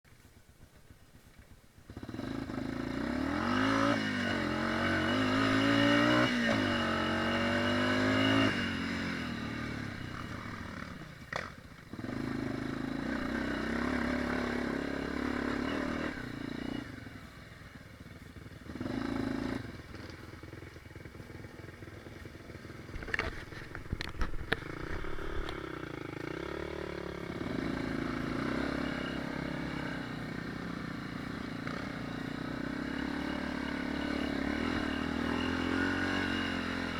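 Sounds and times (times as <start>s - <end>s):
dirt bike engine revving: 1.9s - 17.7s, 18.3s - 20.6s, 22.8s - 36.9s.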